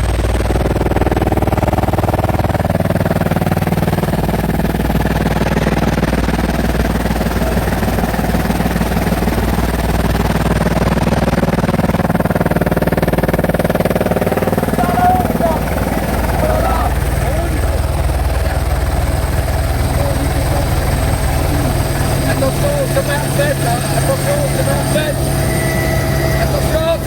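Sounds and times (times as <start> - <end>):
helicopter engine and rotor chop: 0.0 - 27.0.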